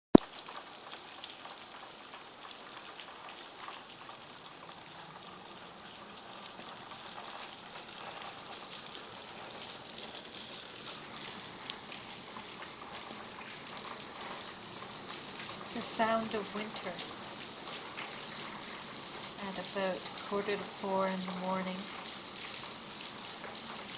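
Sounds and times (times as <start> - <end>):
drips and splashes: 0.2 - 23.9
heavy rain pouring: 0.2 - 23.9.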